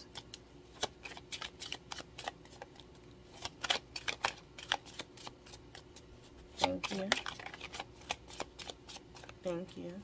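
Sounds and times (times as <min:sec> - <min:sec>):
cards being shuffled: 0:00.1 - 0:09.5.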